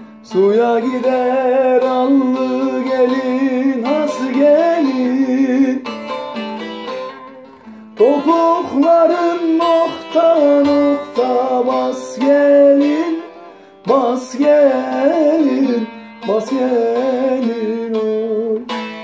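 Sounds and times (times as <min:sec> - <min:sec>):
person singing wavering notes: 0:00.0 - 0:19.0
plucked strings: 0:00.0 - 0:19.0.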